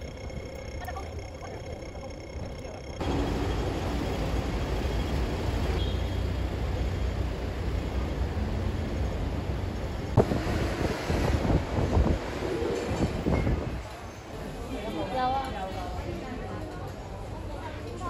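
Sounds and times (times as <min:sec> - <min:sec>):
traffic rumble: 0:00.0 - 0:14.7
street noise: 0:00.0 - 0:18.0.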